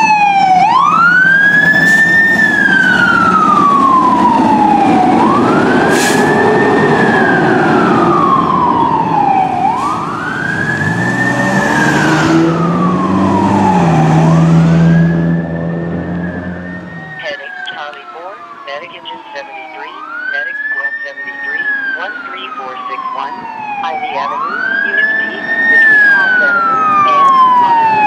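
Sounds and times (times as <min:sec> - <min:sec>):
fire engine siren wailing: 0:00.0 - 0:28.0.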